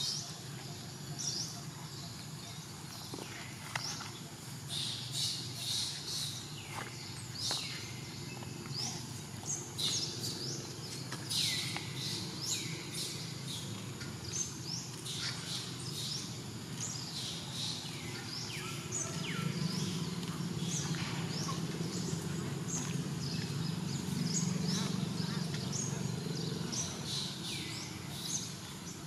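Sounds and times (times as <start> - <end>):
birds chirping: 0.0 - 29.0
steady low hum: 0.0 - 29.0.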